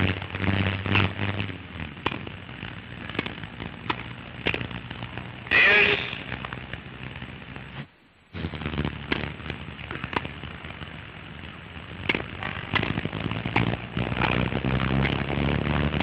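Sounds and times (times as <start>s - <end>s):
old film soundtrack crackle and hiss: 0.0s - 16.0s
steady low hum: 0.0s - 16.0s.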